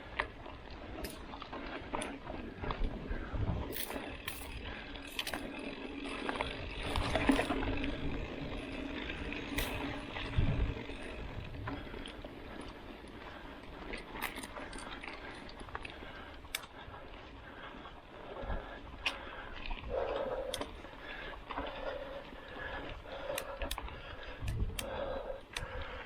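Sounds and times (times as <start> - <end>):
bike clicking and rattling: 0.0 - 26.0
bike tyres rolling on dirt: 0.0 - 26.0.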